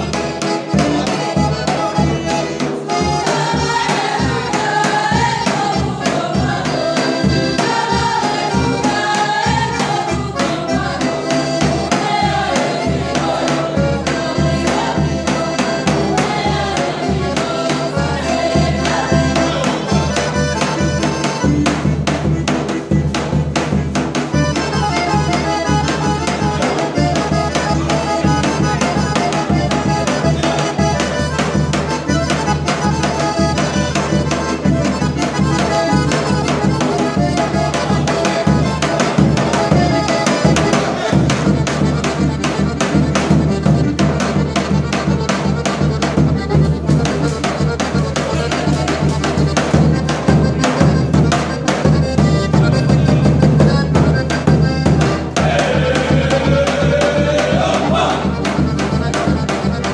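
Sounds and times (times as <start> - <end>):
bass drum beating: 0.0 - 59.9.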